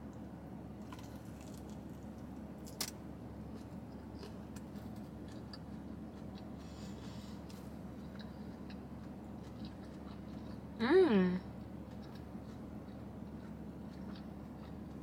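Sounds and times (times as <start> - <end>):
steady low hum: 0.0 - 15.0
crunchy chewing: 0.8 - 10.8, 11.6 - 15.0.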